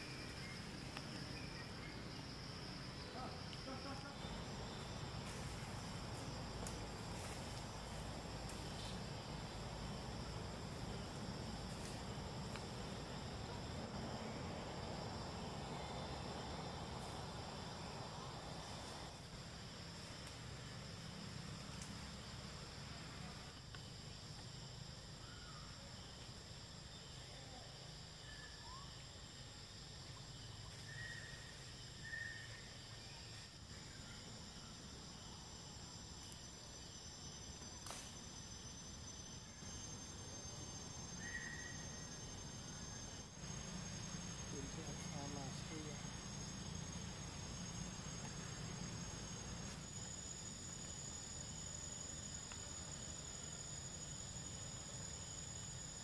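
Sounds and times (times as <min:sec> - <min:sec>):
faint outdoor background noise: 0:00.0 - 0:56.0
forest insects droning: 0:00.0 - 0:56.0.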